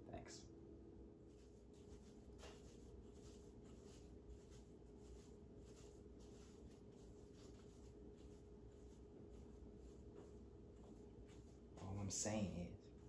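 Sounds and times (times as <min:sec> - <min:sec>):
broom sweeping floor: 0:01.1 - 0:13.0.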